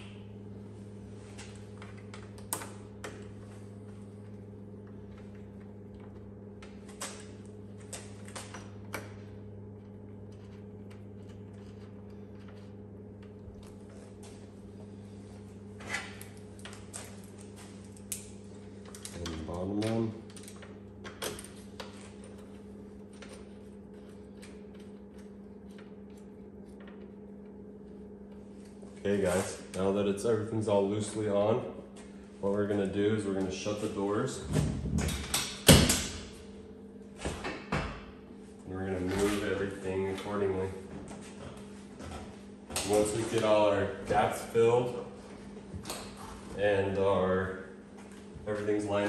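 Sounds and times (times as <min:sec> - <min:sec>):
steady electrical hum: 0:00.0 - 0:49.0.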